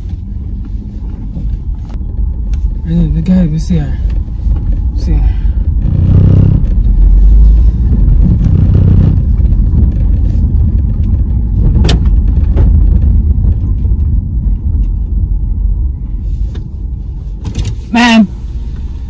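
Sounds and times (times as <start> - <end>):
engine and road noise rumble: 0.0 - 19.0.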